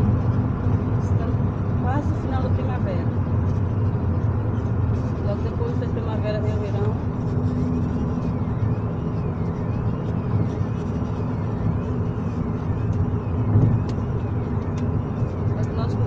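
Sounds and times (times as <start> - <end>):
car road noise rumble: 0.0 - 16.0.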